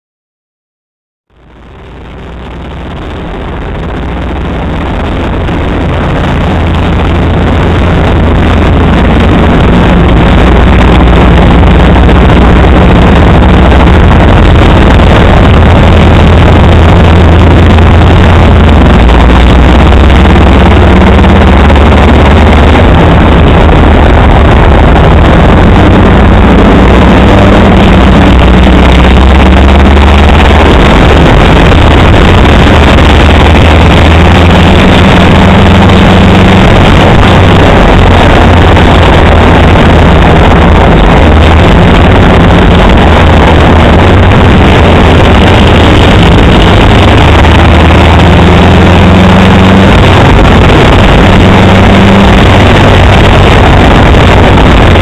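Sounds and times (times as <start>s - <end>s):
rough car engine racing: 1.3s - 55.0s.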